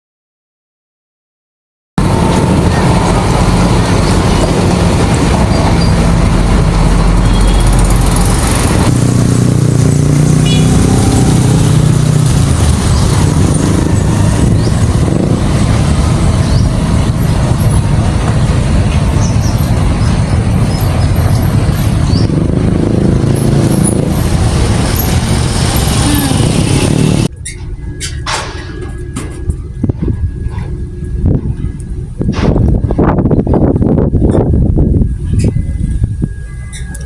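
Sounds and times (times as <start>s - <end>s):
road vehicles rumbling: 2.0s - 37.0s.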